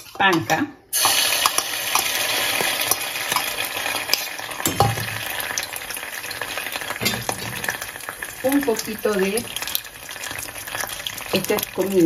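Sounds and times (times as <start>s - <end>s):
chili paste sizzling in oil: 0.0s - 12.0s.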